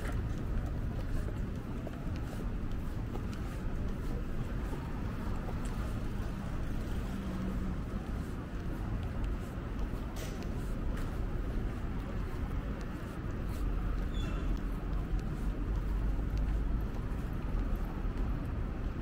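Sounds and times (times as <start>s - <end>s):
distant traffic rumble: 0.0s - 19.0s.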